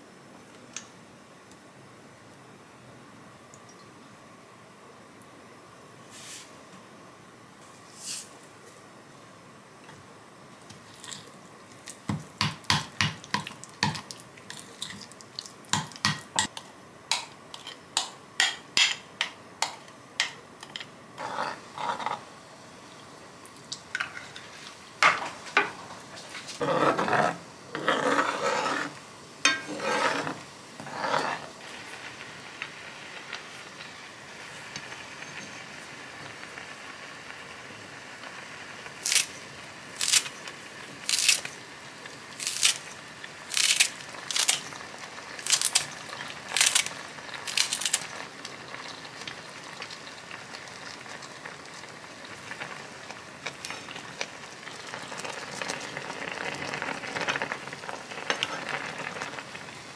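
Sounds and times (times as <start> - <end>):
broth simmering sizzle: 0.0 - 59.9.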